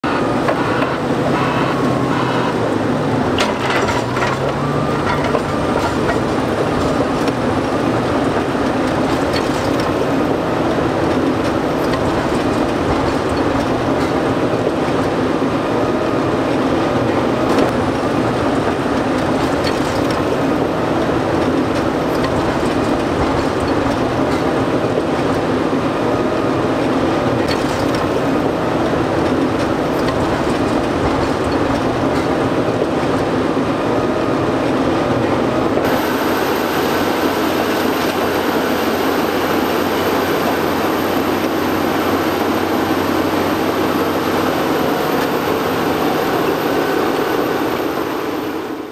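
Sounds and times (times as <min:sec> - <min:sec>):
diesel engine under load: 0:00.0 - 0:48.9
steel tracks clattering: 0:00.0 - 0:48.9.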